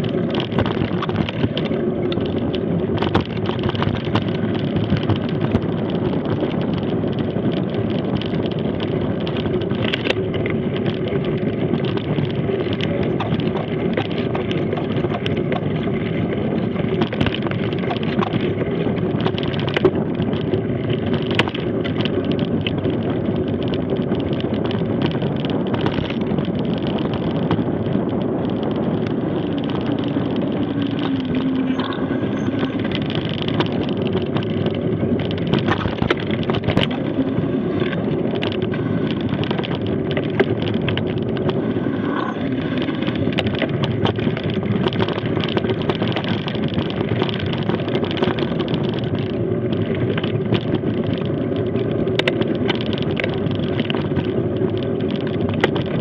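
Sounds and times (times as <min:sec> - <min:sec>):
bike clicks and rattles: 0:00.0 - 0:56.0
tyres rumbling on dirt: 0:00.0 - 0:56.0
wind on microphone: 0:00.0 - 0:56.0.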